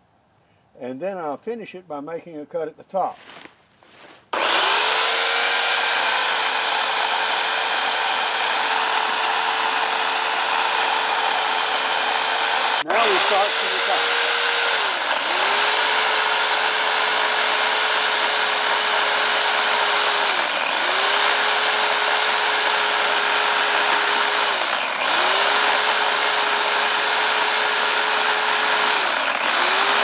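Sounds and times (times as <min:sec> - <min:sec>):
electric chainsaw cutting wood: 0:04.3 - 0:30.0.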